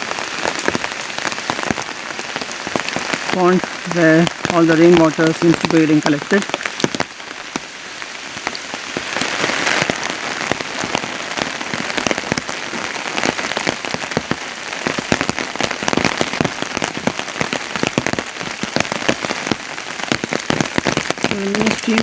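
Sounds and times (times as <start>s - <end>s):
raindrops hitting close by: 0.0s - 22.0s
steady rain: 0.0s - 22.0s.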